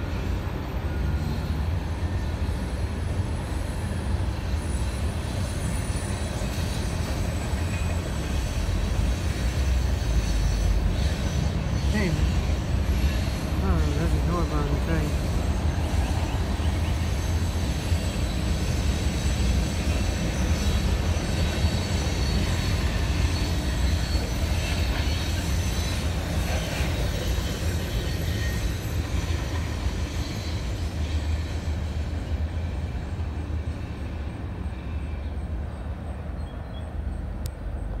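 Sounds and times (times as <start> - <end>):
freight train cars rolling on rails: 0.0 - 38.0.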